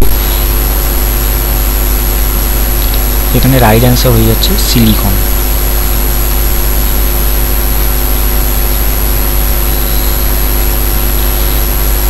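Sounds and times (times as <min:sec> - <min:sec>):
faint high whine: 0:00.0 - 0:12.0
steady hum and hiss: 0:00.0 - 0:12.0.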